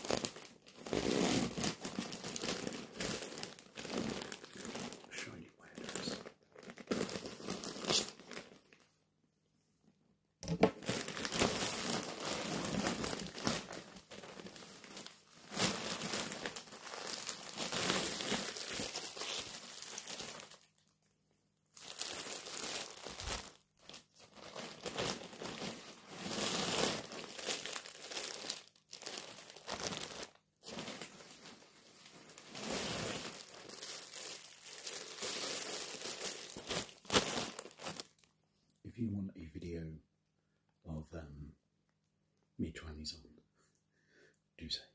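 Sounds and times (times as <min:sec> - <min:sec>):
plastic packaging crinkling: 0:00.0 - 0:08.8, 0:10.4 - 0:21.0, 0:21.7 - 0:38.3.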